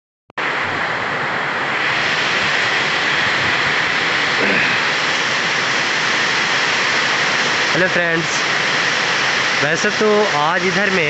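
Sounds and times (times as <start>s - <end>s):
heavy rain pouring: 0.4s - 11.0s.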